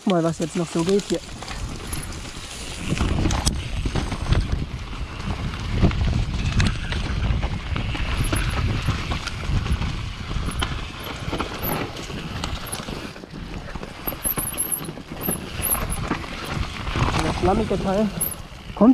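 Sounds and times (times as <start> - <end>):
bike knocking and rattling: 0.0 - 18.9
bike tyres rumbling on dirt: 0.0 - 18.9.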